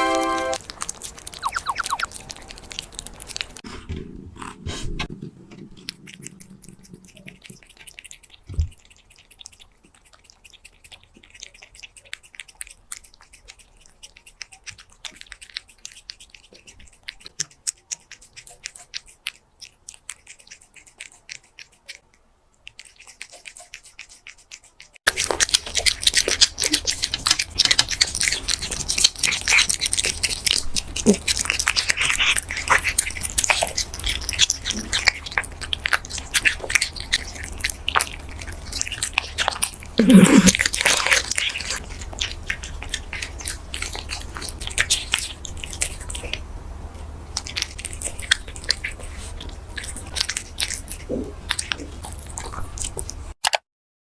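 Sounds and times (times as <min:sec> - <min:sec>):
cat chewing food: 0:00.0 - 0:53.6.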